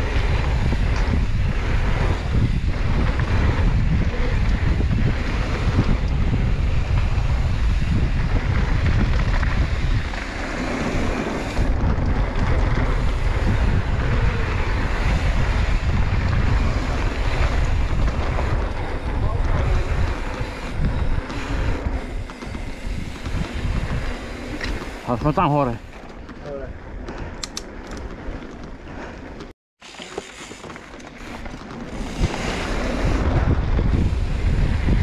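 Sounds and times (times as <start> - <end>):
wind rushing over microphone: 0.0 - 29.2, 31.3 - 35.0.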